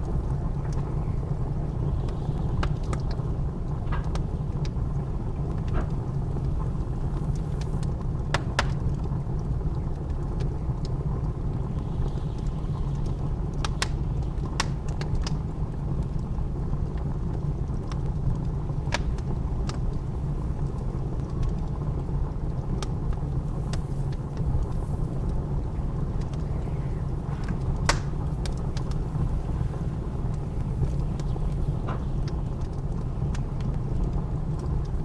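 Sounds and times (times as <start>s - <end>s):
blizzard wind rumble: 0.0s - 35.0s
wood fire crackling and popping: 0.0s - 35.0s.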